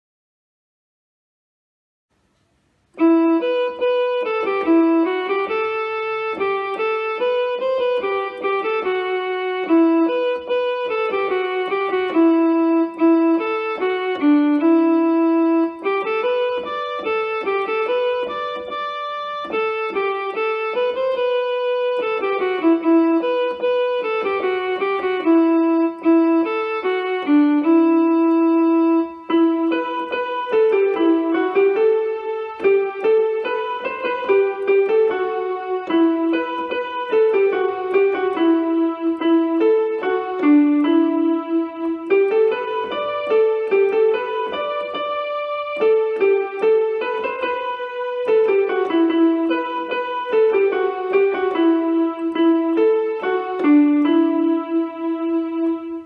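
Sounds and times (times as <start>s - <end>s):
keyboard piano melody: 2.3s - 56.0s.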